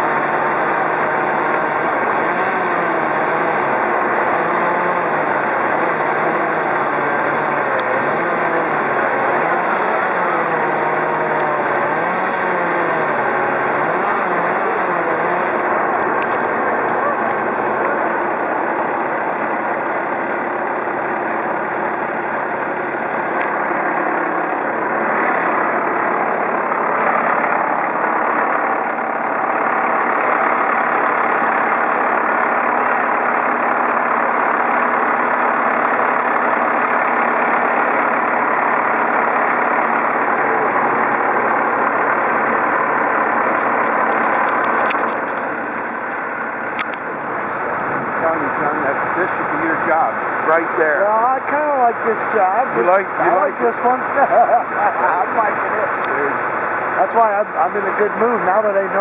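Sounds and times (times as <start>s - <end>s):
heavy engine running: 0.0s - 59.0s.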